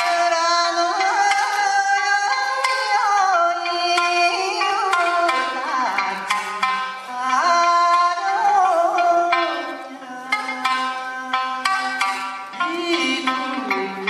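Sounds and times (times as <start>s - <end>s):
plucked strings: 0.0s - 14.0s.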